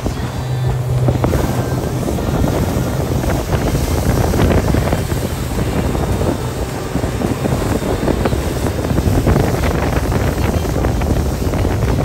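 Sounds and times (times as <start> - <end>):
water rushing behind boat: 0.0 - 12.0
wind buffeting microphone: 0.0 - 12.0.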